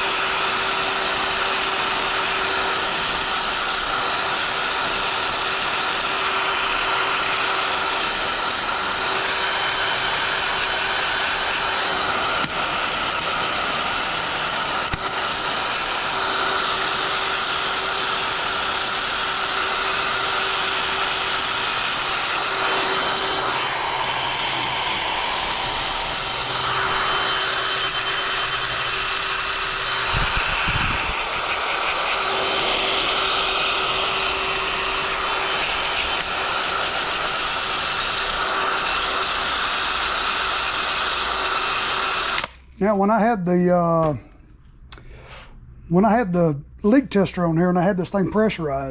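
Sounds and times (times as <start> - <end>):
drill motor whine: 0.0 - 42.7.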